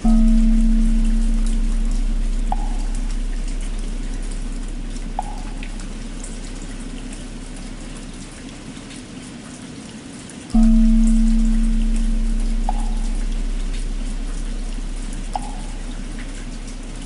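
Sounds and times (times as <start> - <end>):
large bell humming: 0.0 - 8.5, 10.6 - 17.0
steady rain with drips: 0.0 - 17.0.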